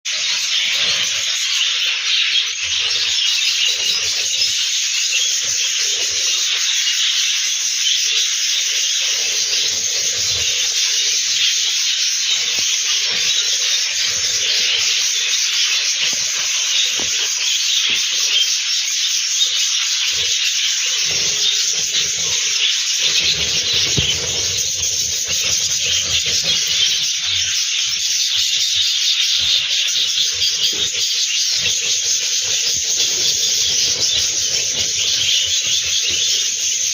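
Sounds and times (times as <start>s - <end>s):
budgerigars chirping: 0.1s - 36.9s.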